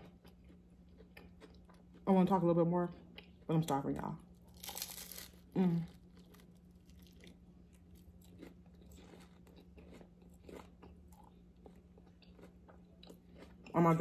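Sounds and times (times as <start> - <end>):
chewing crunchy food: 0.0 - 2.1, 4.4 - 14.0.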